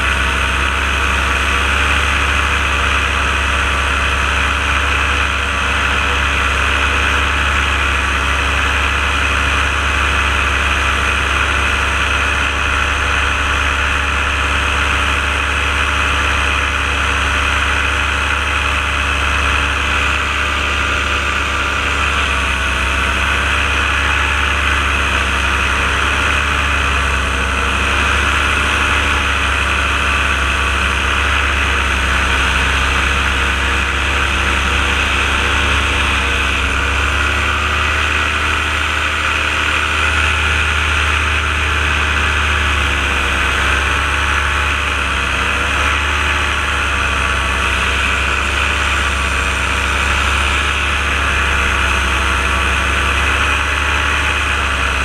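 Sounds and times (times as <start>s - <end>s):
paramotor engine and propeller: 0.0s - 55.0s.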